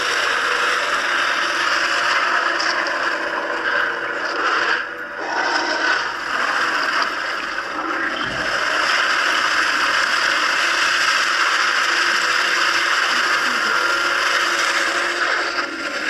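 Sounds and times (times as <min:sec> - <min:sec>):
movie sound from phone speaker: 0:00.0 - 0:16.0.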